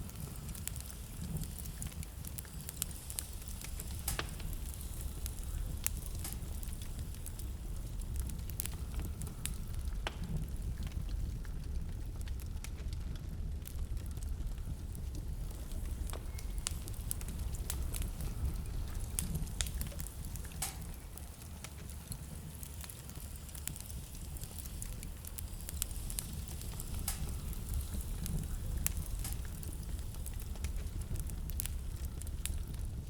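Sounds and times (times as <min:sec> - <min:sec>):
fire crackling and popping: 0:00.0 - 0:33.0
low fire rumble: 0:00.0 - 0:33.0.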